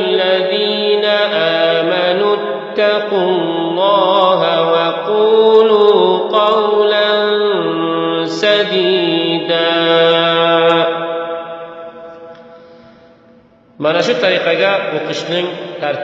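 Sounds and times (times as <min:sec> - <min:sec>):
man reciting melodic chant: 0:00.0 - 0:12.0, 0:13.4 - 0:16.0.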